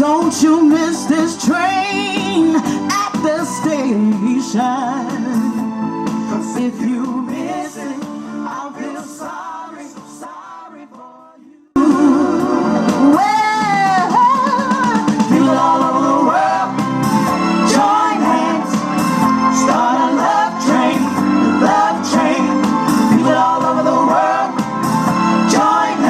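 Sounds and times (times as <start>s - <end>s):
song with band and beat: 0.0s - 10.4s, 11.8s - 26.0s.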